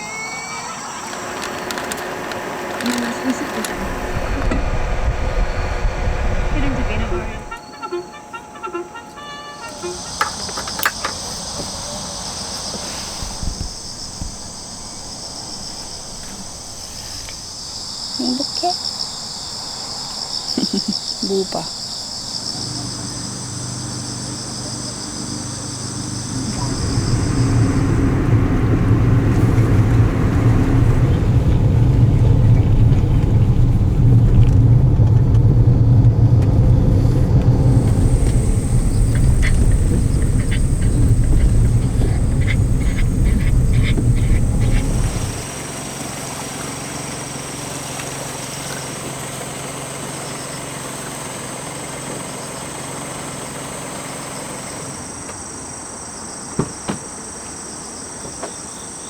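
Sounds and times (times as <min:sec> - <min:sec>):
car engine rumbling: 0:00.0 - 0:56.4
insects chirping: 0:00.0 - 0:59.0.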